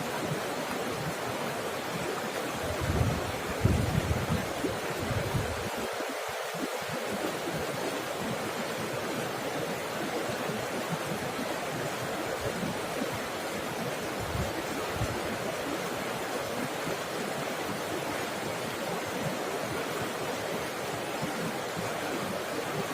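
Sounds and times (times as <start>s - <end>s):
waterfall rushing and splashing: 0.0s - 22.9s.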